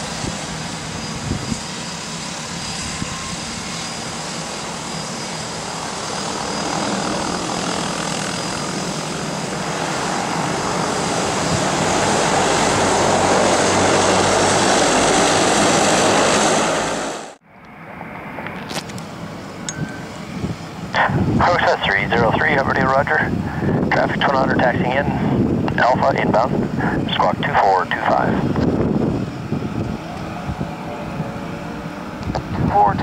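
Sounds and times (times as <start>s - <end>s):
propeller plane engine: 0.0s - 33.0s.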